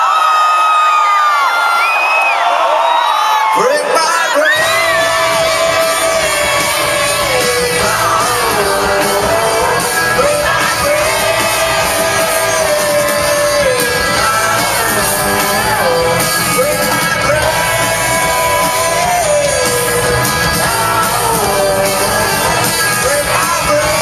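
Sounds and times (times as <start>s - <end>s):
person singing long notes: 3.9s - 24.0s
live rock band playing: 4.4s - 24.0s.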